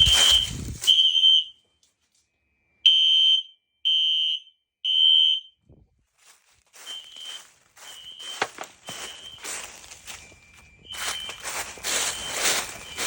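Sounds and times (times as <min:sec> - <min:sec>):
fire alarm horns: 0:00.0 - 0:05.7, 0:06.7 - 0:13.0.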